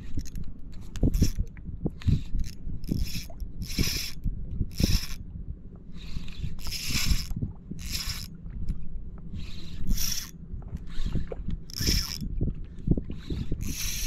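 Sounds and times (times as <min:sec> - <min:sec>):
fishing reel whirring: 0:00.0 - 0:05.2, 0:06.0 - 0:08.4, 0:09.3 - 0:12.3, 0:13.1 - 0:14.0.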